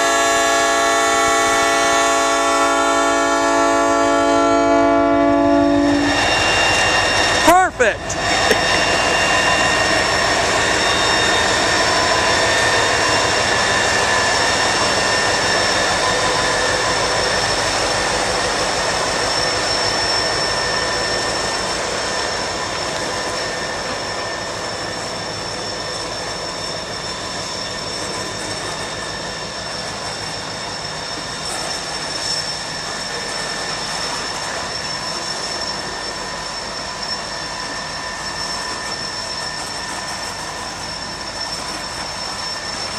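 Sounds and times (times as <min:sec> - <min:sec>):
freight train rumbling: 0:00.0 - 0:42.9
wheels squealing on rail: 0:00.0 - 0:42.9.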